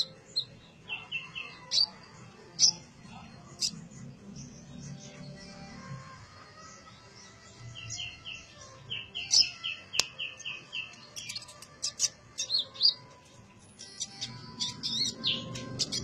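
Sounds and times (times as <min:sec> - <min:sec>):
high twittering bird chirps: 0:00.0 - 0:05.4, 0:06.7 - 0:16.0
bird singing repeated notes: 0:00.0 - 0:16.0.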